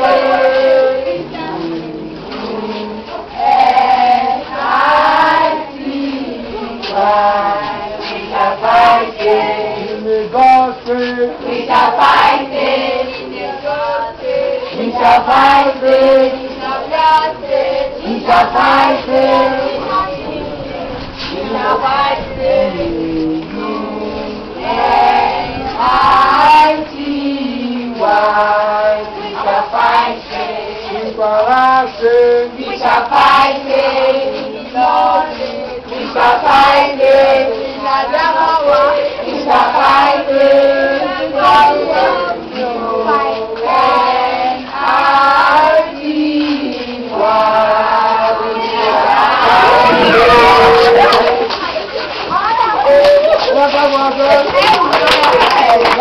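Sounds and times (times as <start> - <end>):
group singing together: 0.0 - 56.0.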